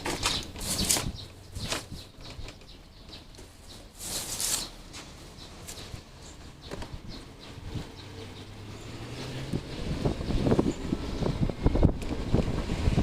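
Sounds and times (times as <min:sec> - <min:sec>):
wind buffeting microphone: 0:00.0 - 0:03.2, 0:05.4 - 0:13.0.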